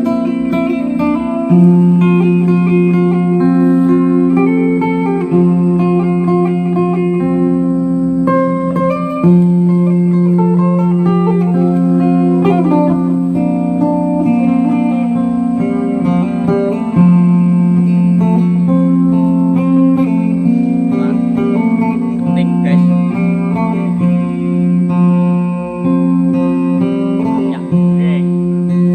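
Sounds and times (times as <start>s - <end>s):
guitar background music: 0.0s - 28.9s.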